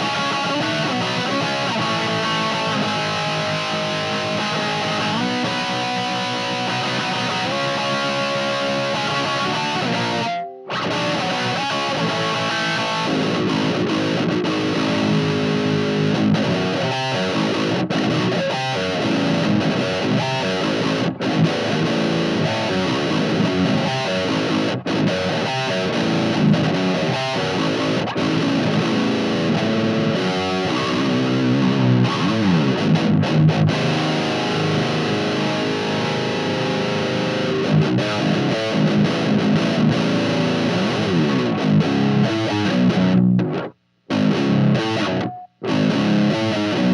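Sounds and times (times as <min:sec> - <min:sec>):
distorted electric guitar riff: 0:00.0 - 0:46.9.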